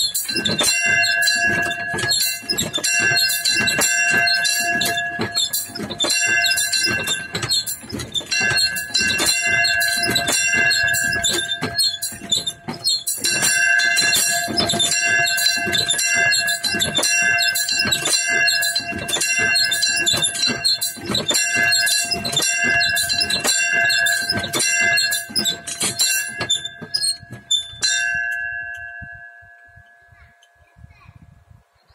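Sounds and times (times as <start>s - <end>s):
small bell ringing: 0.0s - 31.2s.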